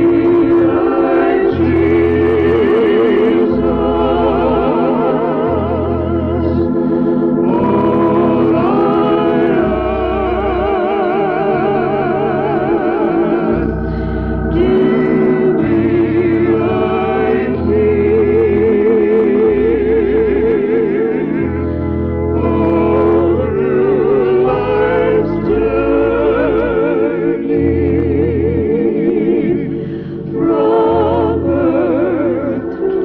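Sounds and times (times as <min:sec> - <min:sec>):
person singing with vibrato: 0:00.0 - 0:33.0
sustained organ chords: 0:00.0 - 0:33.0.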